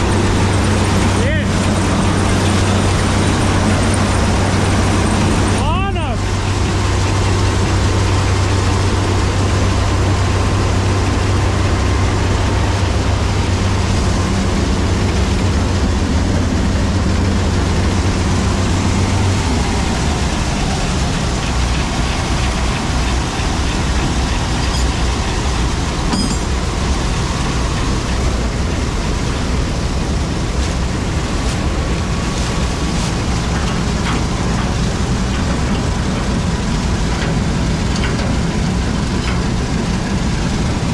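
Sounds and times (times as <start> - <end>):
combine harvester engine hum: 0.0 - 40.9.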